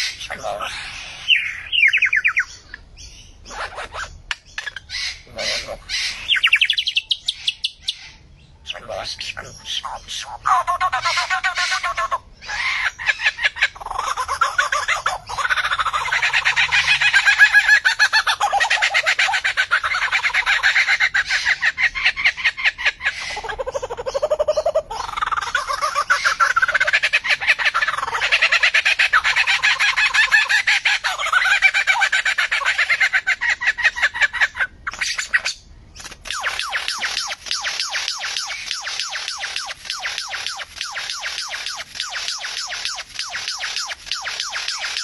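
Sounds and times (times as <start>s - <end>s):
harsh noisy bird calls: 0.0s - 45.0s
lyrebird singing: 0.0s - 45.0s.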